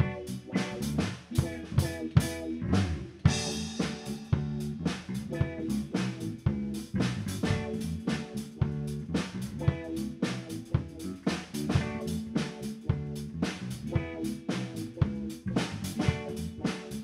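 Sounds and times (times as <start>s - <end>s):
drum kit beat: 0.0s - 17.0s.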